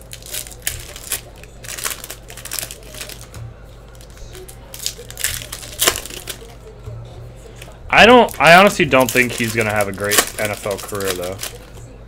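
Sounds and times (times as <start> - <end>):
foil wrapper crinkling: 0.0 - 6.6, 7.6 - 12.0.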